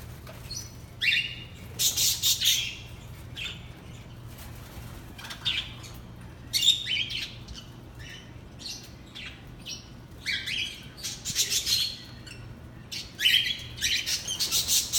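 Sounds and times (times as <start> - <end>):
parrots squawking and chirping: 0.3 - 4.2, 4.8 - 14.9.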